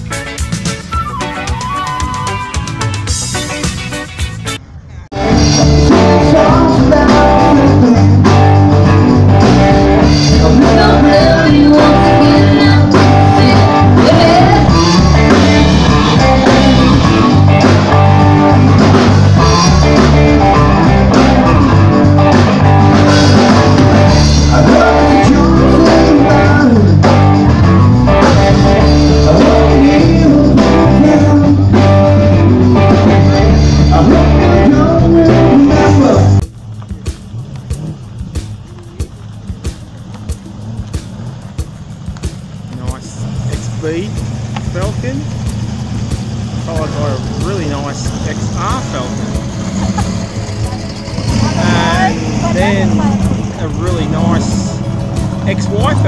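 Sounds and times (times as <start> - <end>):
rock music: 0.0 - 56.0.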